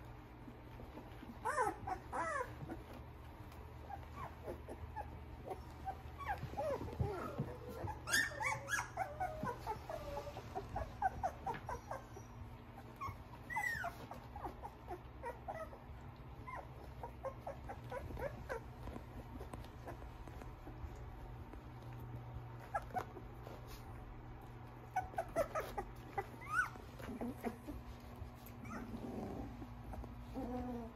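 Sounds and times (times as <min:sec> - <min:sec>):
puppies whimpering and squeaking: 0:00.0 - 0:30.9.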